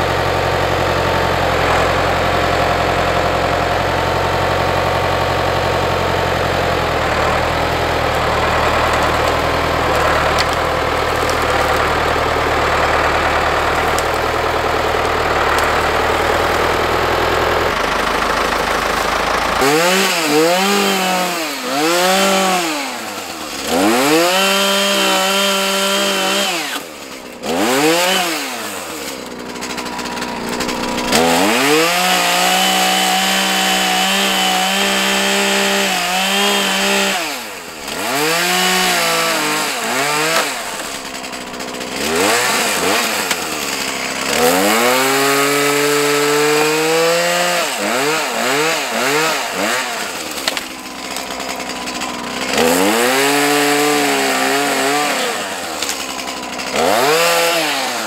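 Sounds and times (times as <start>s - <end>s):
chainsaw cutting tree limbs: 0.0s - 58.0s.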